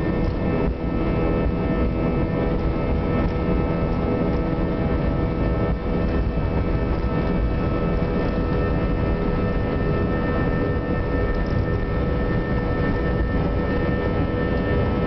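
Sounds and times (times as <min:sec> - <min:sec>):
jet engines whining in cabin: 0:00.0 - 0:15.0.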